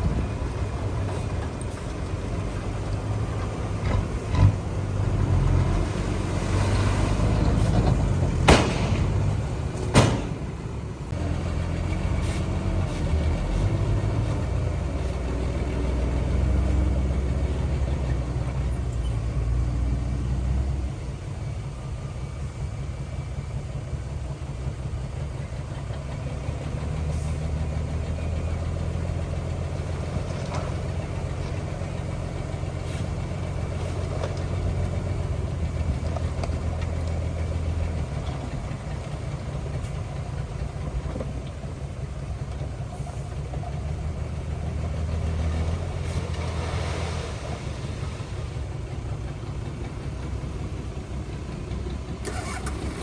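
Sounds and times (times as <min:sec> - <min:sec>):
heavy diesel engine rumbling: 0:00.0 - 0:53.0.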